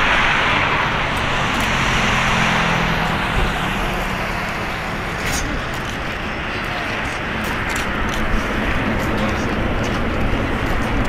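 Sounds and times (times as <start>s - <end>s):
jet engines at taxi power: 0.0s - 11.0s.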